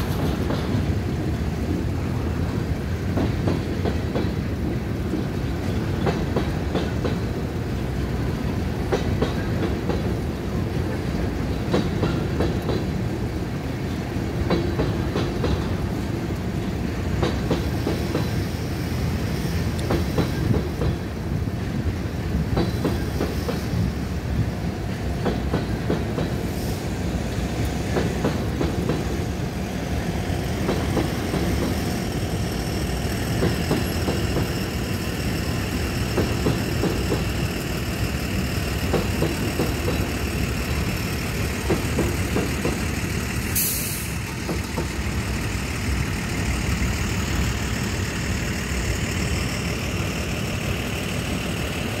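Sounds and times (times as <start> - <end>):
wheels clicking over rail joints: 0.0 - 18.8, 19.6 - 52.0
train wheels rumbling on rail: 0.0 - 52.0.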